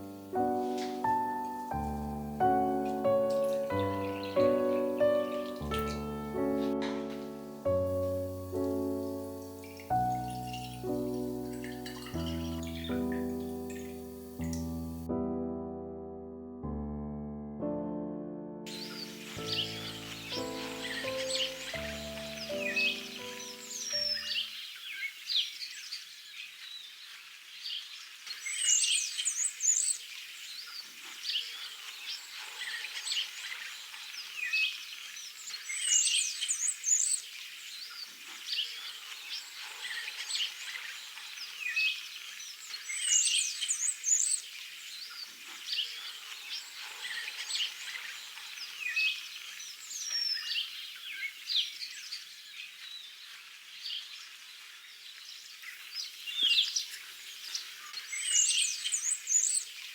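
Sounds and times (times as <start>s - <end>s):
bird rapid high song: 0.0s - 15.1s, 18.7s - 59.9s
songbirds chirping: 0.0s - 15.1s, 17.7s - 59.9s.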